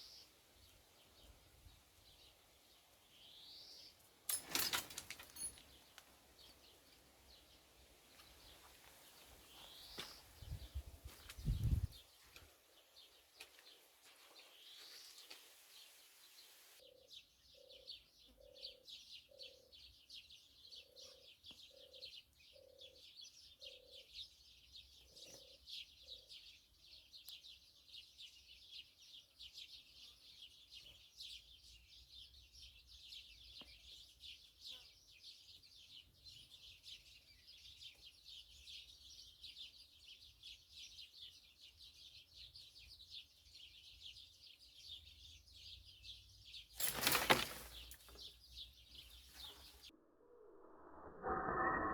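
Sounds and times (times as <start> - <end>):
songbirds chirping: 0.0 - 50.2.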